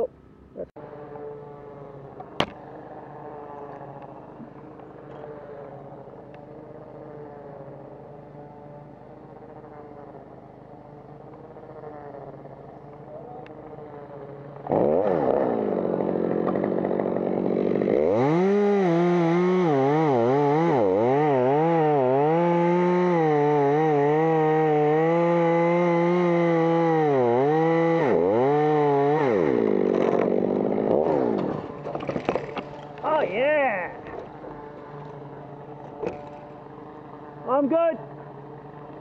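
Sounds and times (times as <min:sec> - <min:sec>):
chainsaw cutting wood: 0:00.8 - 0:39.0
chainsaw throttle blips: 0:00.8 - 0:39.0.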